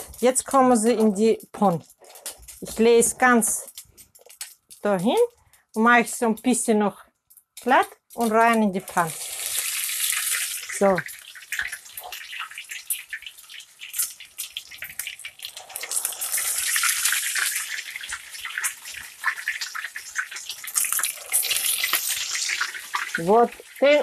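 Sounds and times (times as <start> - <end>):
patties sizzling in oil: 0.0 - 24.0.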